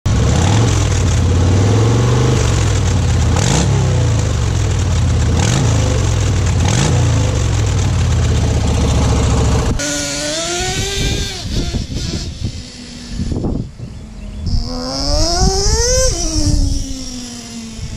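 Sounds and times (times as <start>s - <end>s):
deep engine sound: 0.1s - 17.9s
two-stroke engine whine revving: 0.1s - 17.9s.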